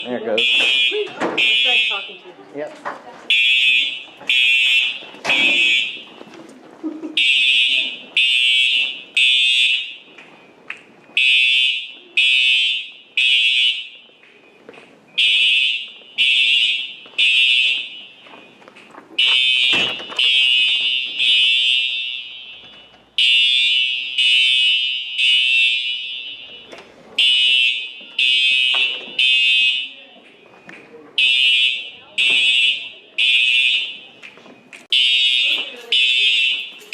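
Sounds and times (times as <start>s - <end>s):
fire alarm horn beeping: 0.0s - 2.3s, 3.3s - 6.3s, 7.2s - 14.2s, 15.1s - 30.0s, 31.2s - 34.2s, 34.9s - 36.9s.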